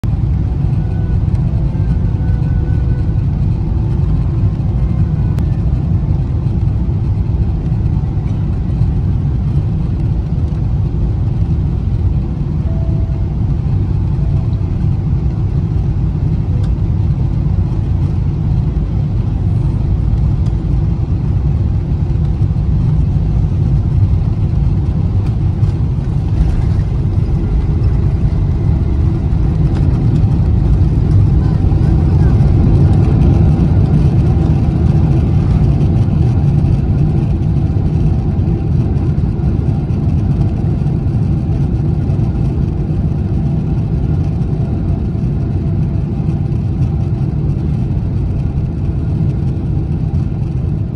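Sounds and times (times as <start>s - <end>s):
airliner cabin engine rumble: 0.0s - 50.9s.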